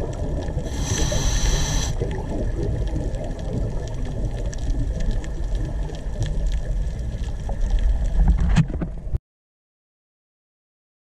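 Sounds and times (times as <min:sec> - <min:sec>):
muffled underwater rumble: 0:00.0 - 0:09.2.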